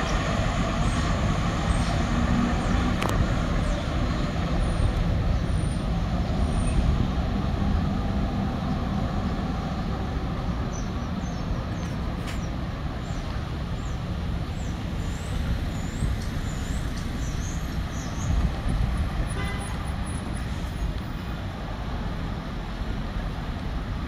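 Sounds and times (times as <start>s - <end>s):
heavy vehicle engine: 0.0s - 24.0s
street traffic rumble: 0.0s - 24.0s.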